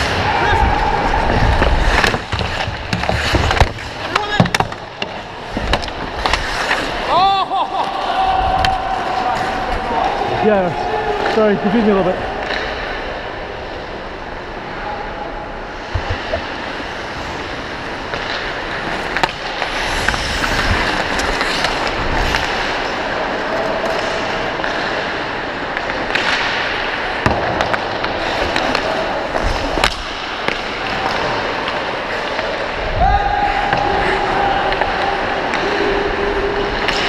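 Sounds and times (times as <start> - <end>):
skates scraping on ice: 0.0 - 32.8.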